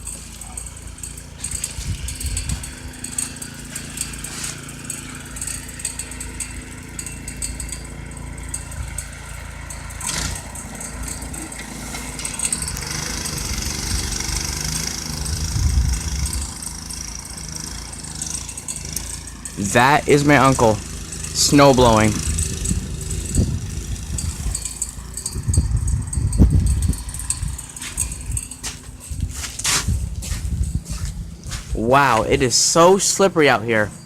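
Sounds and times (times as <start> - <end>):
snowblower engine running: 0.0 - 34.0.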